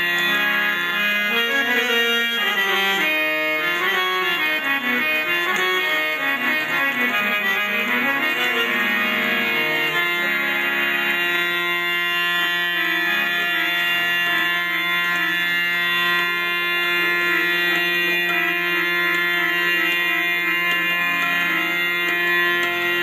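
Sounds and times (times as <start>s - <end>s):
harmoniums playing reedy chord: 0.0s - 23.0s.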